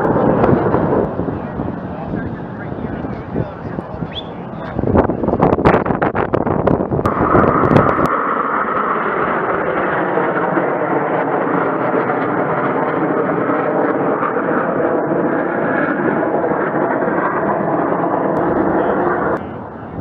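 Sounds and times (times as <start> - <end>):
jet engines roaring overhead: 0.0 - 20.0.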